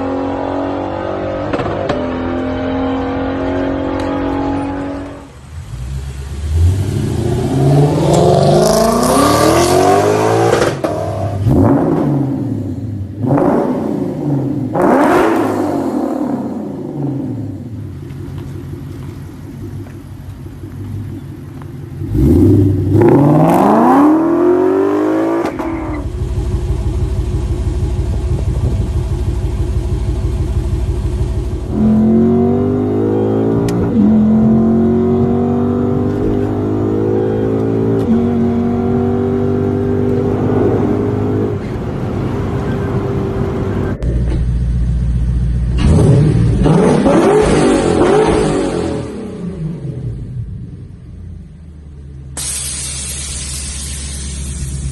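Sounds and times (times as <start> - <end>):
car engine revving and accelerating: 0.0 - 19.9, 21.0 - 29.4, 31.2 - 44.4, 45.7 - 50.4.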